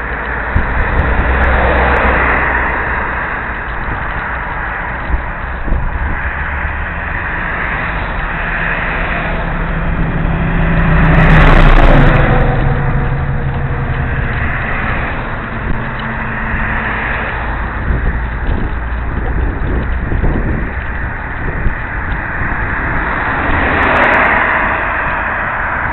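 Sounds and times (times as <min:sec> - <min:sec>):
motor vehicle passing: 0:00.0 - 0:25.9
wind on microphone: 0:00.0 - 0:25.9.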